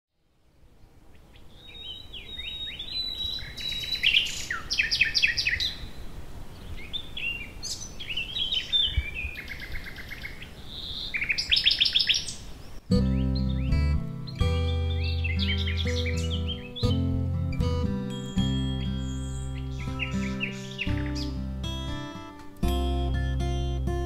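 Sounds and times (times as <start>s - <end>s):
songbird singing trills: 0.8s - 24.0s.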